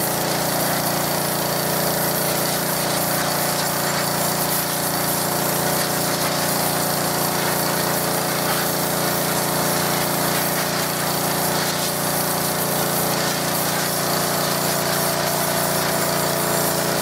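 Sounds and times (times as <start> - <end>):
high-pressure water jet hissing: 0.0 - 17.0
pressure washer engine running: 0.0 - 17.0.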